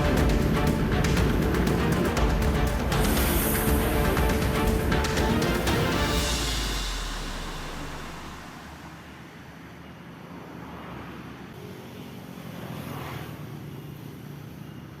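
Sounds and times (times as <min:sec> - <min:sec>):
vehicle passing: 0:00.0 - 0:13.9
road traffic rumble: 0:00.0 - 0:15.0.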